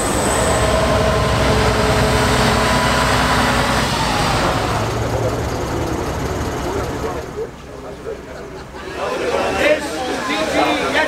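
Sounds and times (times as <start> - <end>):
truck engine rumbling with whine: 0.0 - 11.0.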